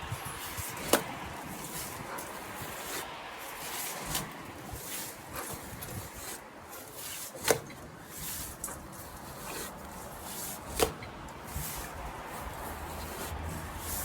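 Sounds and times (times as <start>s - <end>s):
trowel scraping mortar on stone: 0.2s - 14.0s
sharp trowel clacks: 0.4s - 12.0s.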